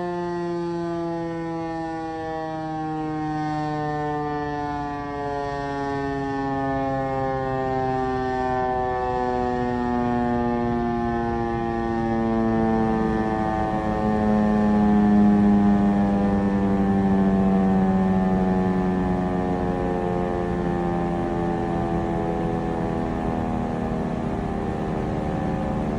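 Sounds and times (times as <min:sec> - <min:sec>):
tornado siren steady tone: 0:00.0 - 0:25.9.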